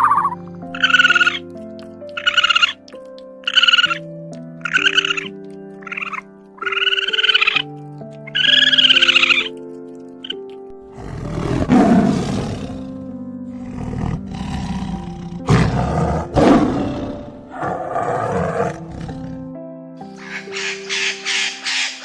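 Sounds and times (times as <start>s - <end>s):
music with sustained notes: 0.0s - 22.0s.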